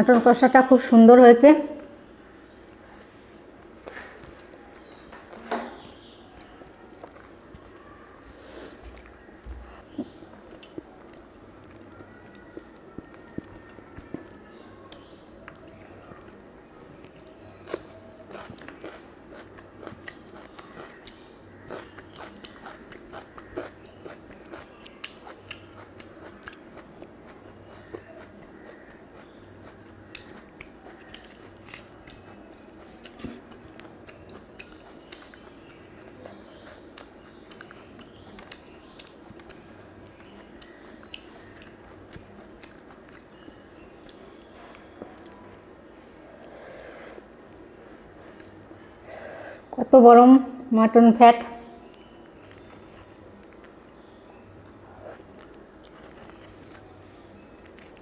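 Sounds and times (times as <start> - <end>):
person chewing: 6.2 - 49.7, 51.7 - 58.0.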